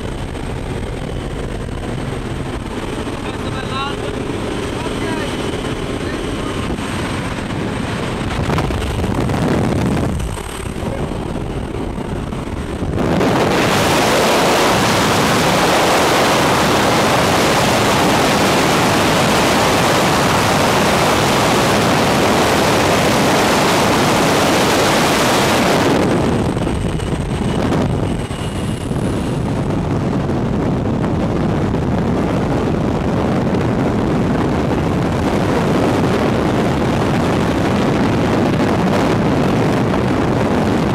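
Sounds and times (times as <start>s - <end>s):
freefall air on microphone: 0.0s - 40.9s
plane engine and propeller drone: 0.0s - 40.9s
wind rushing: 0.0s - 40.9s.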